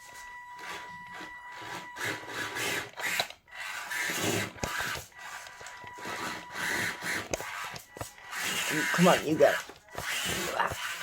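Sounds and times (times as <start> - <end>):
toy car motor and gears whirring: 0.5 - 11.0.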